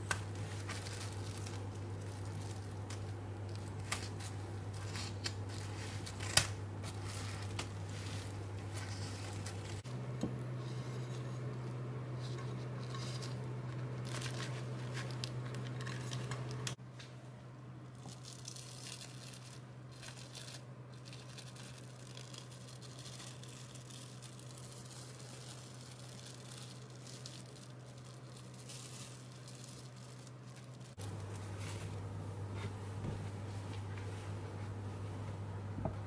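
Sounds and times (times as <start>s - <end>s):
cling film crinkling: 0.0s - 9.9s, 10.6s - 16.8s, 17.9s - 32.0s
steady low hum: 0.0s - 36.0s.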